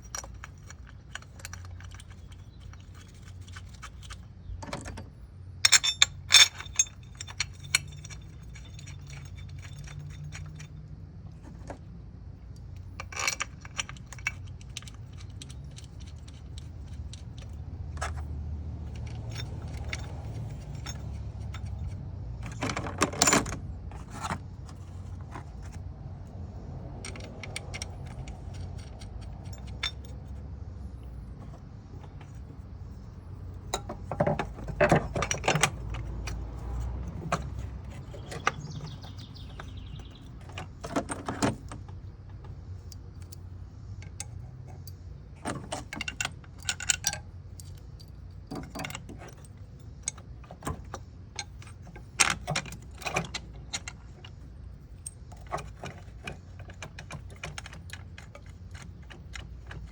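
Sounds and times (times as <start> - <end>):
metal tools clinking and knocking: 0.0 - 25.8, 26.8 - 59.9.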